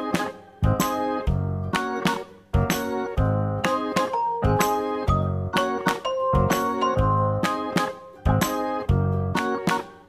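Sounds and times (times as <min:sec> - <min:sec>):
background music with tinkling notes: 0:00.0 - 0:10.0.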